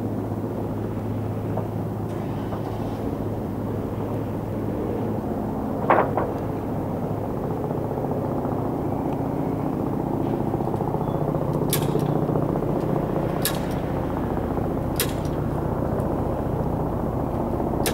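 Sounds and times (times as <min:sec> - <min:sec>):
helicopter turbine and rotor drone: 0:00.0 - 0:17.9.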